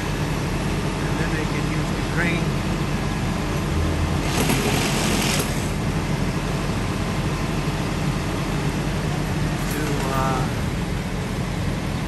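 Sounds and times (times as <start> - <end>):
truck engines idling: 0.0 - 12.0.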